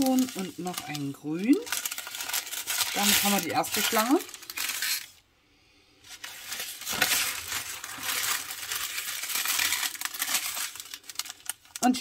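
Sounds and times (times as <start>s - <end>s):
plastic bags crinkling: 0.0s - 5.2s, 6.0s - 12.0s.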